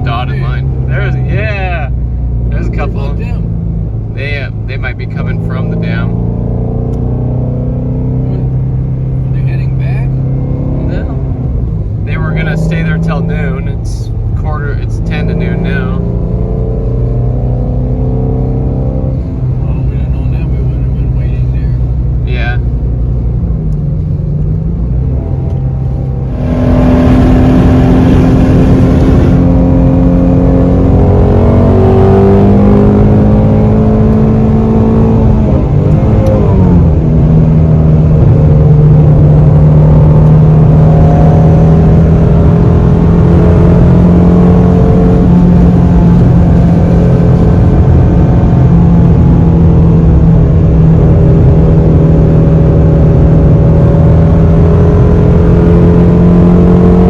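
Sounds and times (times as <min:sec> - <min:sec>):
car engine accelerating hard: 0:00.0 - 0:57.0.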